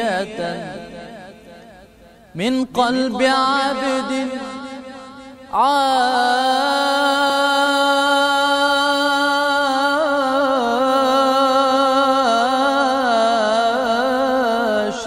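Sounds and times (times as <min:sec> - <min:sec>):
man chanting devotional song: 0:00.0 - 0:15.0.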